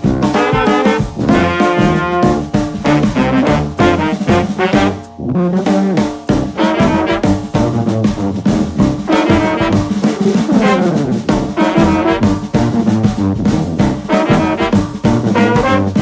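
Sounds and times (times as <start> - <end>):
jazzy tune with brass horns: 0.0 - 16.0
steady drum beat: 0.0 - 16.0.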